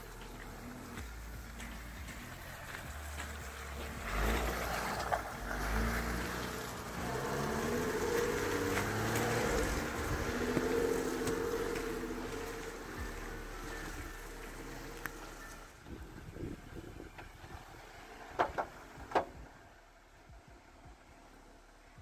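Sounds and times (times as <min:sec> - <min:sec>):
tyres splashing through mud: 0:00.0 - 0:19.5
car engine driving: 0:00.0 - 0:22.0.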